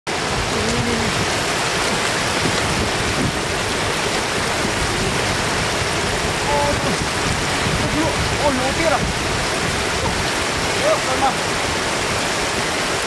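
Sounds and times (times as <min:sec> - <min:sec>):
water rushing over road edge: 0:00.1 - 0:13.0.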